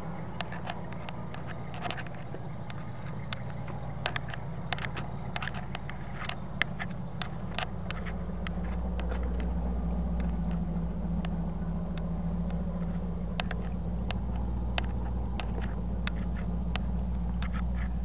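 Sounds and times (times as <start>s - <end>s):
car engine idling: 0.0s - 18.0s
light clicks: 0.1s - 18.0s.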